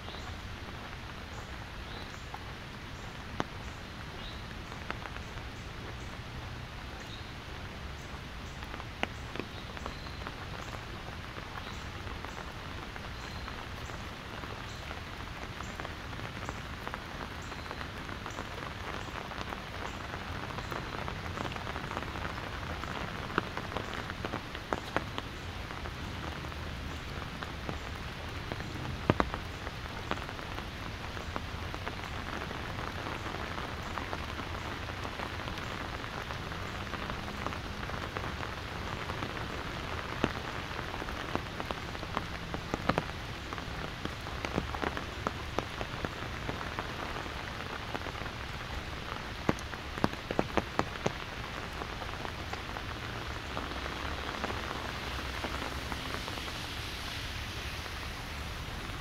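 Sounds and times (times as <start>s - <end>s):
rain on an umbrella: 0.0s - 59.0s.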